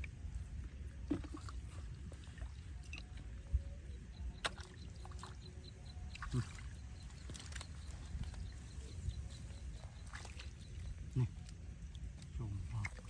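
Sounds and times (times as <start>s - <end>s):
shallow water sloshing: 0.0s - 13.0s
steady low rumble: 0.0s - 13.0s.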